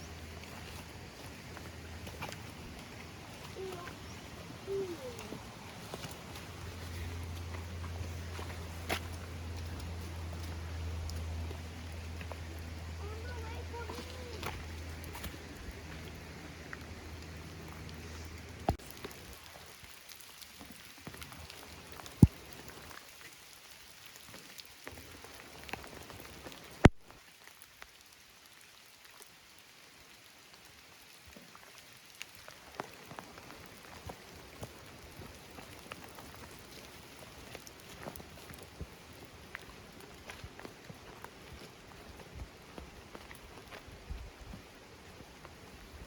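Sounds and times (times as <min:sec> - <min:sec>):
rain falling in forest: 0:00.0 - 0:46.0.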